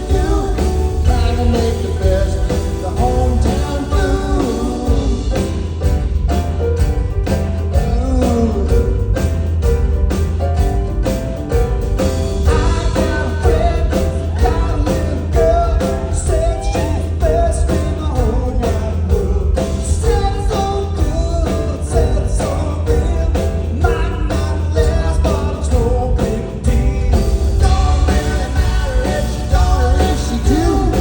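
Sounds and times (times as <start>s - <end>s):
person singing: 0.0s - 5.8s, 7.7s - 9.4s, 12.5s - 31.0s
live rock band: 0.0s - 31.0s.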